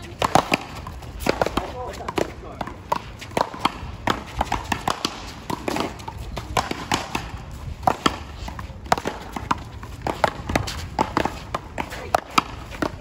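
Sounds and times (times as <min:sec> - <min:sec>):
ball smacking paddles and wall: 0:00.0 - 0:13.0.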